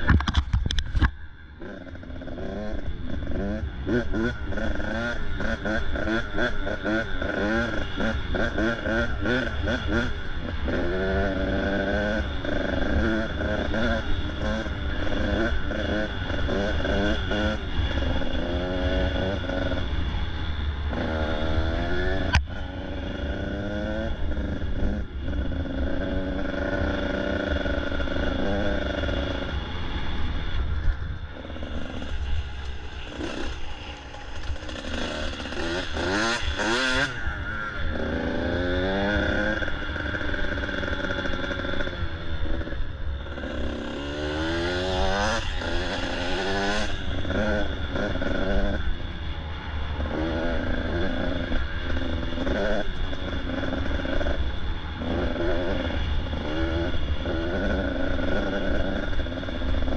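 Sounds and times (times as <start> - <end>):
dirt bike engine revving: 1.5 - 59.9.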